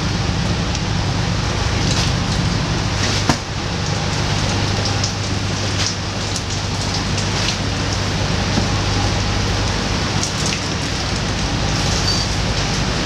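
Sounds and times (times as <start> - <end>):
boat engine humming: 0.0 - 13.0
drips ticking: 0.0 - 13.0
rain falling on deck and water: 0.0 - 13.0.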